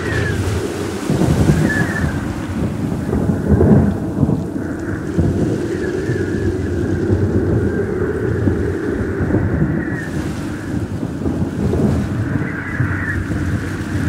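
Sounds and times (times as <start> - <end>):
heavy rain hissing: 0.0 - 14.0
rolling thunder rumble: 0.0 - 14.0.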